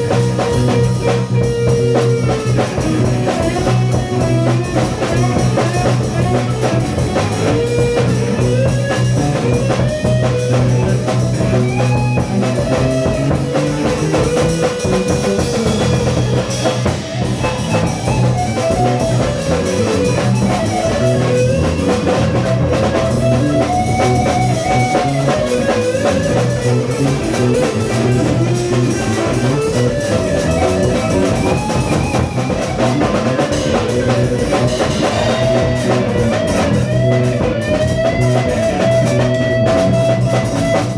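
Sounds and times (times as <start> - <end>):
bass guitar: 0.0 - 40.9
drum kit with cymbals: 0.0 - 40.9
electric guitar lead: 0.0 - 40.9.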